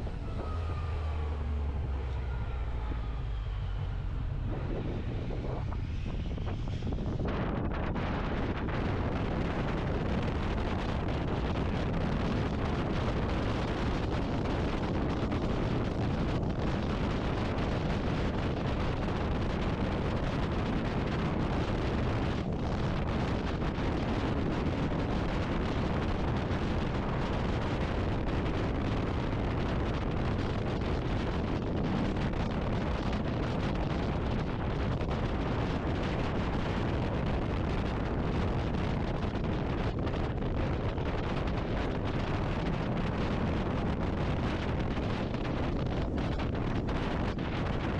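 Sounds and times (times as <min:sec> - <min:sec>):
road noise: 0:00.0 - 0:47.9
wind buffeting microphone: 0:00.0 - 0:47.9.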